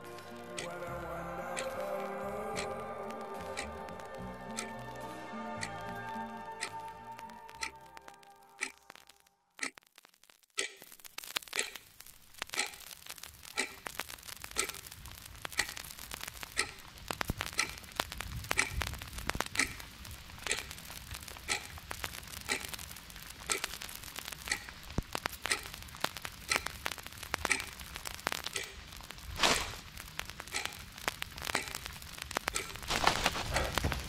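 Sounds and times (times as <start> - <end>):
faint crackling rustling noise: 0.0 - 0.8, 1.6 - 34.0
clock ticking: 0.0 - 9.9, 10.6 - 34.0.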